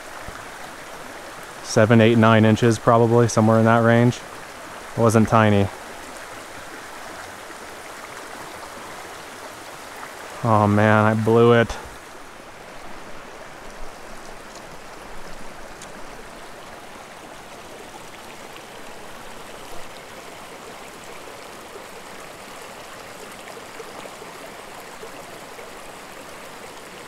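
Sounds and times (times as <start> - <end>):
stream babbling over rocks: 0.0 - 27.0.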